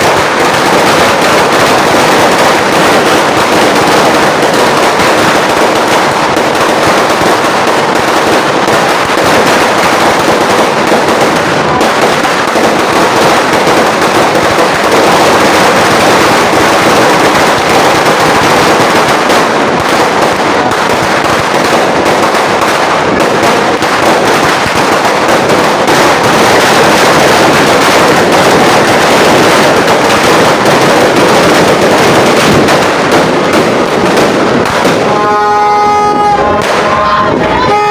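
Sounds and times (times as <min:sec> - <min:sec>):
firecrackers rapid crackle: 0:00.0 - 0:37.9.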